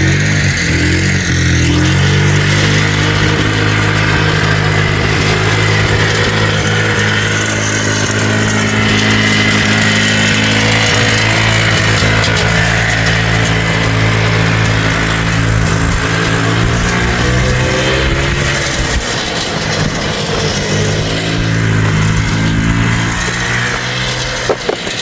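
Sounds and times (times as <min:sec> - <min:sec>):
two-stroke engine running: 0:00.0 - 0:25.0.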